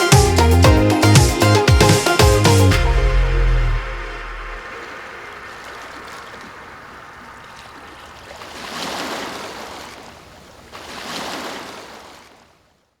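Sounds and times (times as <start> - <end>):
sea waves washing in: 0.0 - 12.6.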